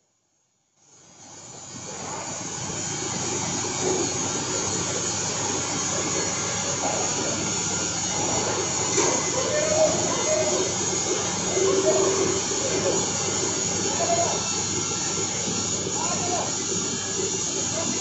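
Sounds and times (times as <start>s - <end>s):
industrial machinery noise: 1.0s - 18.0s.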